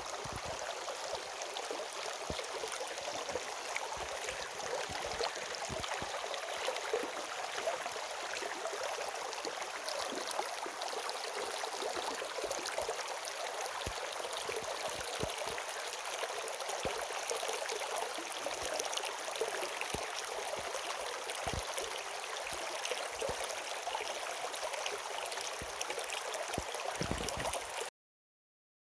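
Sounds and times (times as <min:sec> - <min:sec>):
running water rushing: 0:00.0 - 0:27.9.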